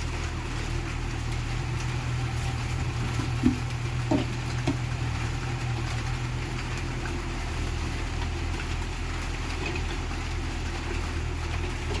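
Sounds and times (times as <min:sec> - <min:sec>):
excavator diesel engine droning: 0:00.0 - 0:12.0.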